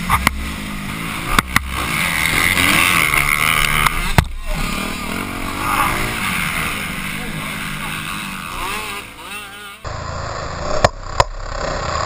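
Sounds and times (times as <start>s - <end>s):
dirt bike engine revving: 0.0s - 12.0s
wind and track noise: 0.0s - 12.0s.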